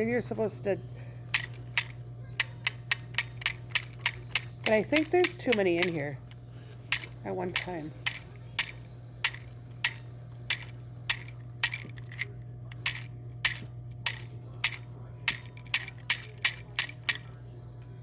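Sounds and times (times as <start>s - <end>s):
low steady hum: 0.0s - 18.0s
light plastic clicks: 1.3s - 17.9s.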